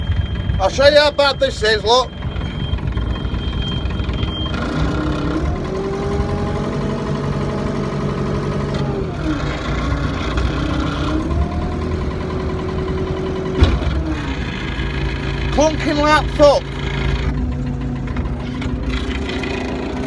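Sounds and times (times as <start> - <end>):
engine whine: 0.0 - 20.0
tractor engine revving: 0.0 - 20.0.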